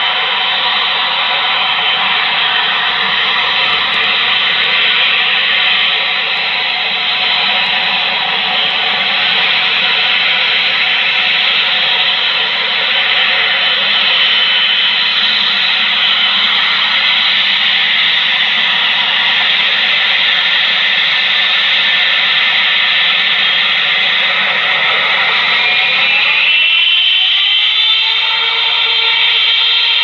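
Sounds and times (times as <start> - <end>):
jet engine whine: 0.0 - 30.0
jet engines roaring: 0.0 - 30.0.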